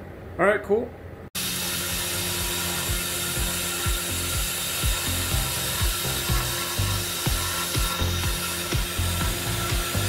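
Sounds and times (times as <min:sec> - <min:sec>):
hiss of metal cutting: 0:01.4 - 0:10.0
mill spindle high whine: 0:01.4 - 0:10.0.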